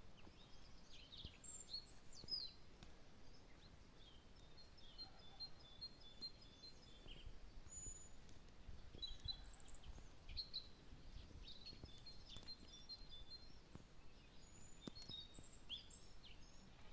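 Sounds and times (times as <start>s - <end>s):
songbirds chirping: 0.0s - 16.9s.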